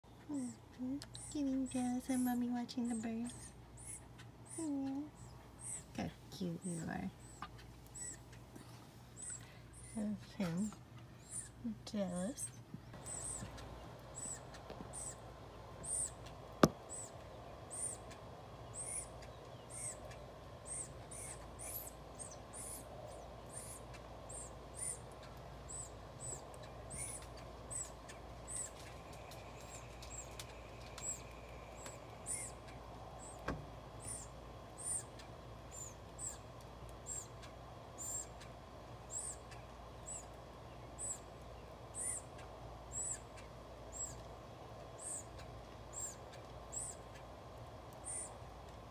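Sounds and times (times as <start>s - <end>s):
faint low hum: 0.0s - 48.9s
bird chirping: 0.1s - 48.7s.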